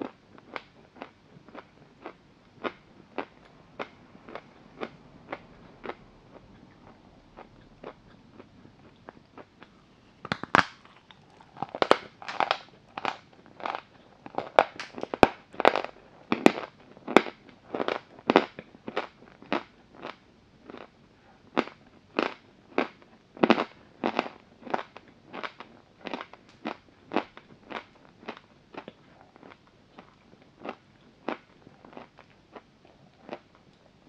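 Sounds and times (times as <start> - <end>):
chalk crunching being chewed: 0.0 - 20.9, 21.6 - 33.7.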